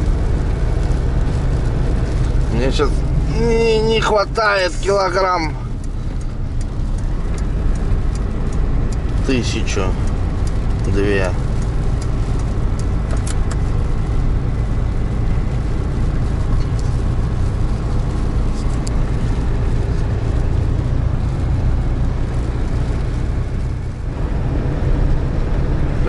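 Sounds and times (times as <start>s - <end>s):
truck engine and road drone: 0.0s - 26.0s.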